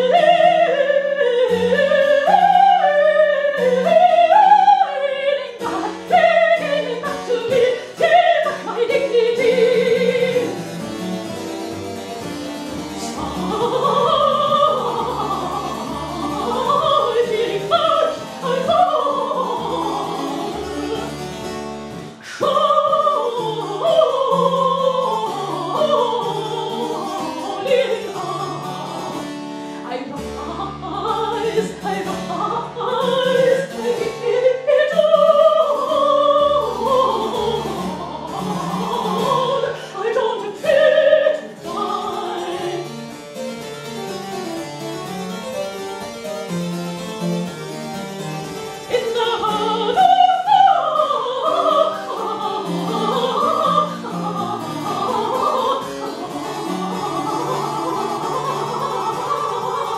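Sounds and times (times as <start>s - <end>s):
woman singing operatically: 0.0s - 10.8s, 12.9s - 21.5s, 22.2s - 43.0s, 48.8s - 59.9s
harpsichord: 0.0s - 59.9s.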